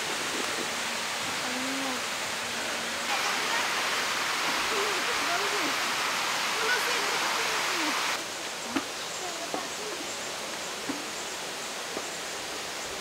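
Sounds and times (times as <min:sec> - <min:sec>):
forest ambience: 0:00.0 - 0:13.0
rushing water hiss: 0:00.0 - 0:13.0.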